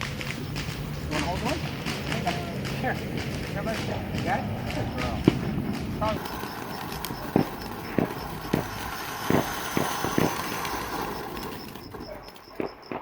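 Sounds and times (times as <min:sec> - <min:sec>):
steady hiss: 0:00.0 - 0:11.9
fireworks bangs: 0:00.0 - 0:13.0.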